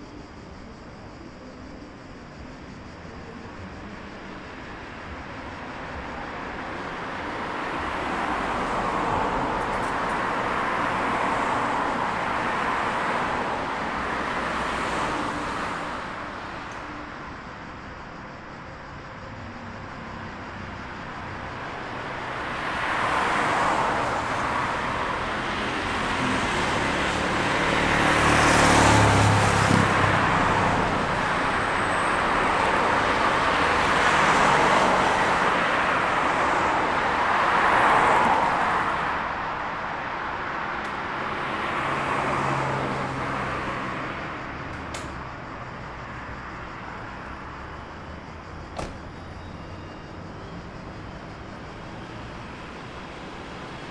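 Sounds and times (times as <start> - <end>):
vehicles passing: 3.2 - 17.7, 19.4 - 53.9.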